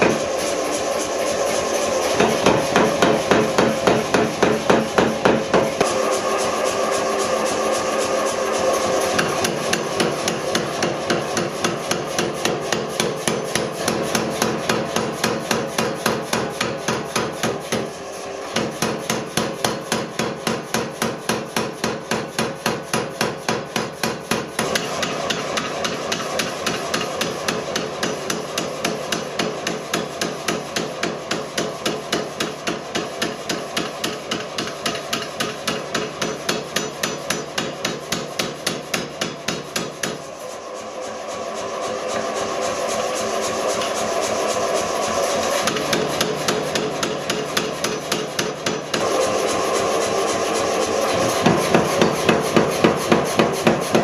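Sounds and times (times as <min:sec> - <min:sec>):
power hammer pounding steel: 0:00.0 - 0:54.0.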